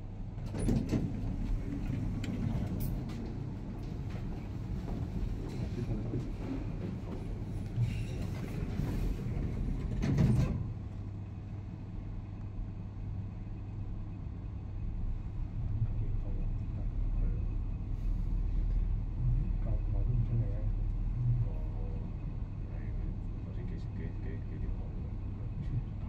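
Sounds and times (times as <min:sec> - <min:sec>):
lift humming and rumbling: 0:00.0 - 0:26.0.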